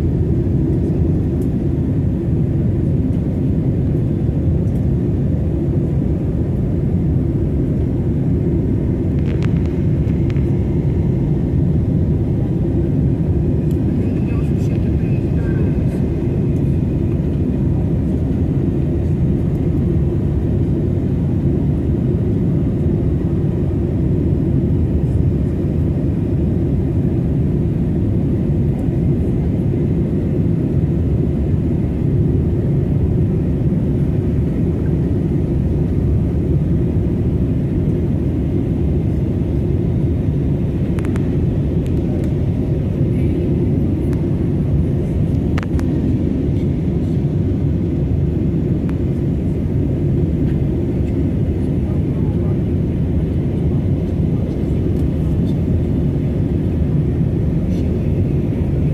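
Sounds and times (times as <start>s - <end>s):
jet cabin engine rumble: 0.0s - 58.9s.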